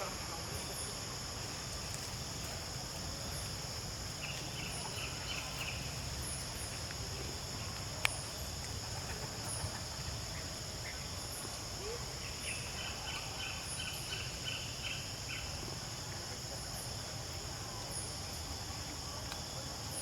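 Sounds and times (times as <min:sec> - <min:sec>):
insects droning: 0:00.0 - 0:20.0
repeating insect chirp: 0:00.0 - 0:20.0.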